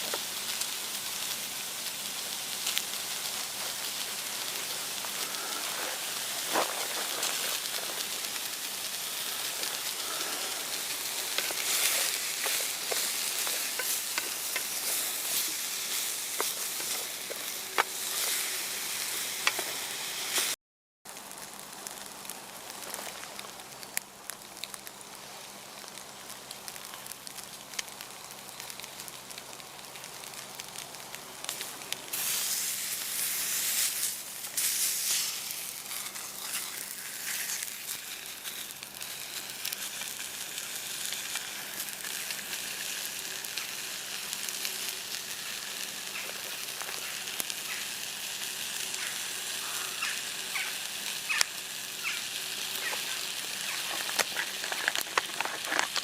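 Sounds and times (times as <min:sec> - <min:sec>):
steak sizzling in a pan: 0:00.0 - 0:20.6, 0:26.7 - 0:56.0
crackles and pops: 0:00.0 - 0:56.0.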